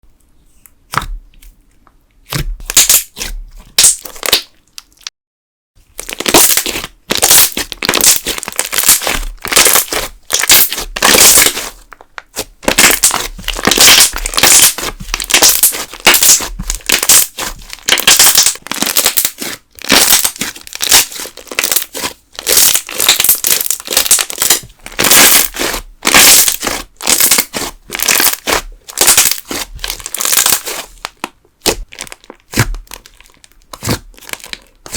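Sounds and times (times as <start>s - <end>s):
slime crackling and popping: 2.3s - 5.1s, 5.9s - 34.9s.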